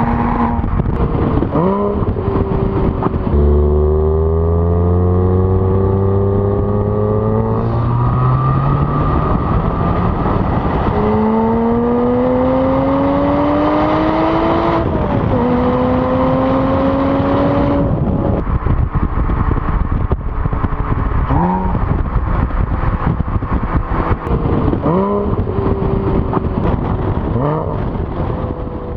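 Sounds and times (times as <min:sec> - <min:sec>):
sports car engine revving: 0:00.0 - 0:18.5, 0:20.5 - 0:28.9.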